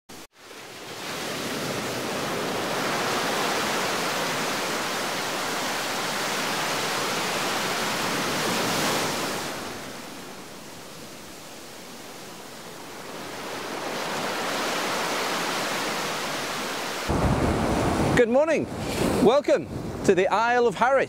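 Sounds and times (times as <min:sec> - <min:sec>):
sea surf rushing: 0:00.1 - 0:21.0.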